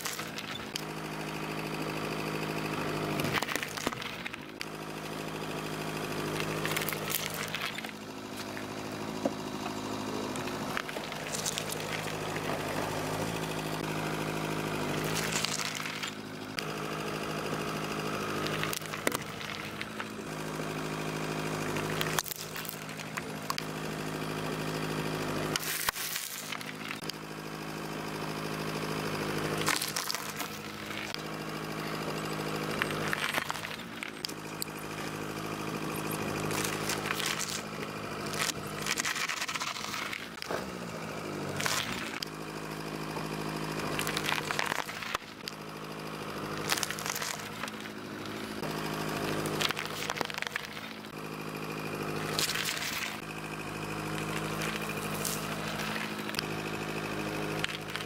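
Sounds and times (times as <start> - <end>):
car engine idling: 0.0 - 58.0
tyre crushing fruit on gravel: 0.0 - 58.0.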